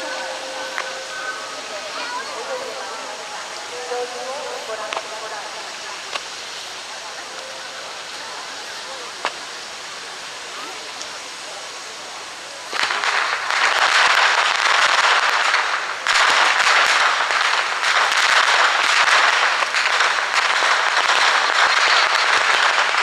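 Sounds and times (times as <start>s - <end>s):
fireworks hissing and crackling: 0.0s - 23.0s.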